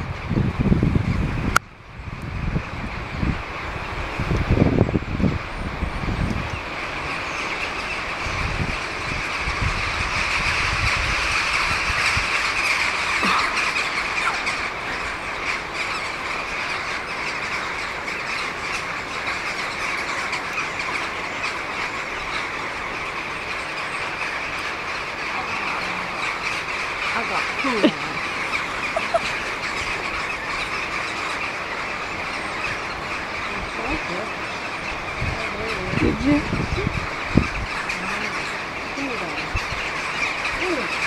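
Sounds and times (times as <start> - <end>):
wind buffeting microphone: 0.0 - 41.0
flock of crows cawing: 6.6 - 41.0.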